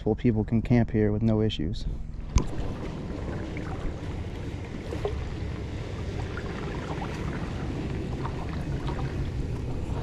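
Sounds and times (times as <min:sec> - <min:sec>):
wind rumble on microphone: 0:01.8 - 0:10.0
water at shoreline: 0:01.9 - 0:10.0.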